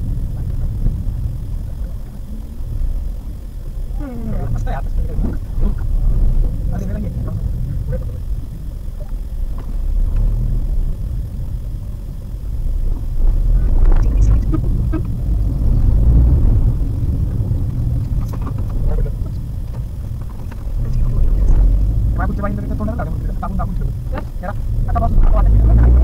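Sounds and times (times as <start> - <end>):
car driving on rough road: 0.0 - 26.0.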